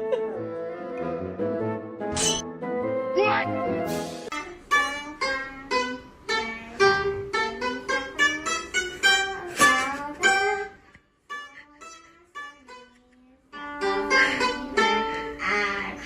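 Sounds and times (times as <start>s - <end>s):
plucked-string music: 2.1s - 16.0s.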